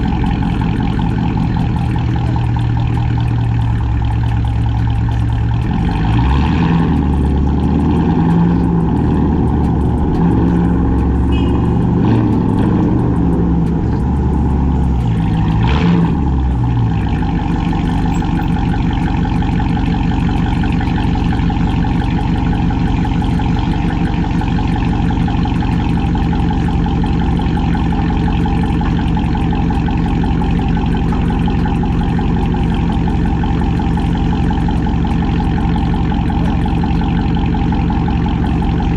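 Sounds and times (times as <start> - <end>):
car exhaust rumbling: 0.0 - 38.9.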